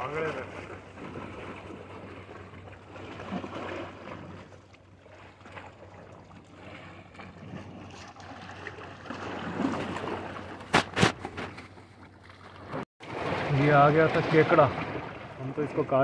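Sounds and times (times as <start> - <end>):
sea waves washing: 0.0 - 11.1, 12.6 - 16.0
wind: 0.0 - 16.0.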